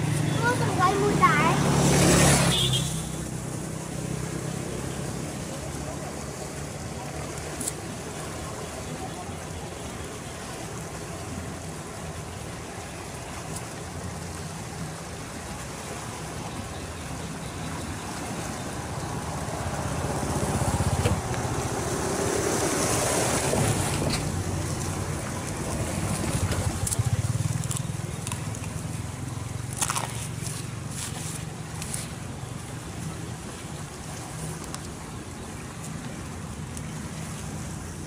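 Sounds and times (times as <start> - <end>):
river water rushing: 0.0 - 38.0
water sloshing and dripping: 0.0 - 38.0.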